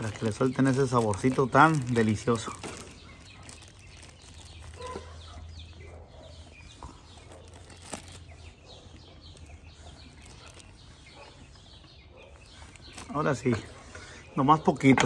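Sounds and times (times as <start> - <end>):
birds chirping and clucking: 0.0 - 15.0.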